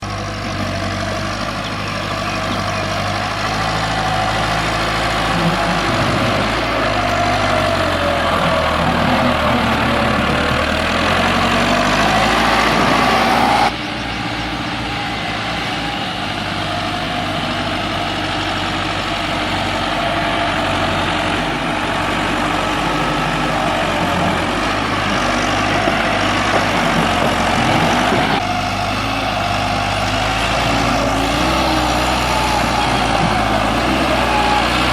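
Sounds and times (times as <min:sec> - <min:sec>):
tractor diesel engine revving: 0:00.0 - 0:34.9.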